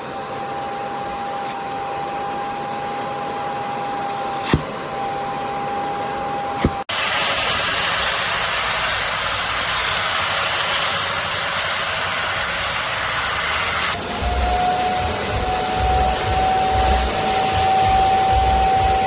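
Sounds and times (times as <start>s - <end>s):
vacuum motor whining: 0.0s - 7.2s, 8.3s - 19.0s.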